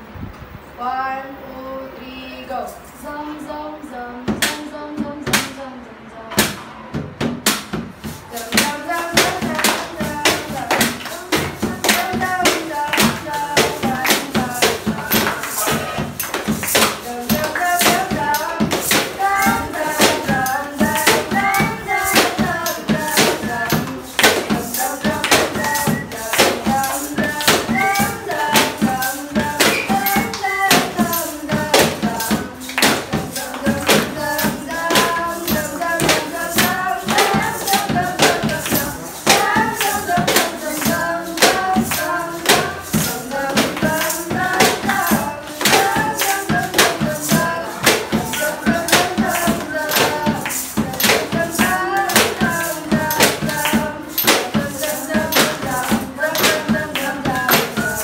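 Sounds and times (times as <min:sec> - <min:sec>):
tin can and sticks percussion: 0:06.3 - 0:58.0
group singing: 0:08.1 - 0:58.0.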